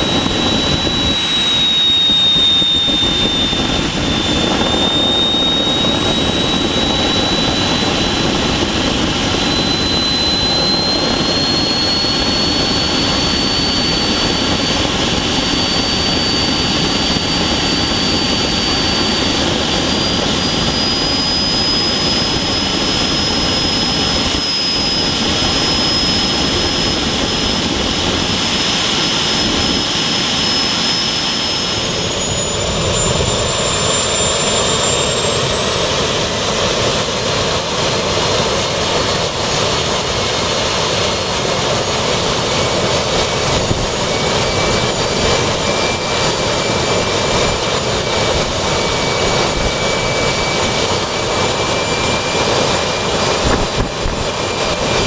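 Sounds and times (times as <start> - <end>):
high turbine whine: 0.0 - 55.0
jet engine roar: 0.0 - 55.0.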